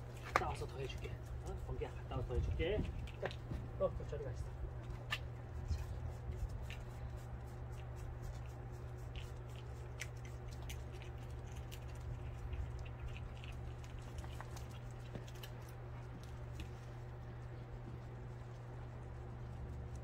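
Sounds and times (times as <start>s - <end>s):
dog claws clicking on asphalt: 0.0s - 20.0s
steady low hum: 0.0s - 20.0s.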